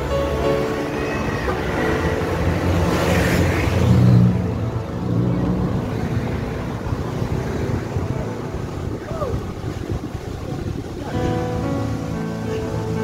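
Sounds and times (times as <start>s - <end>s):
car engines rumbling: 0.0s - 13.0s.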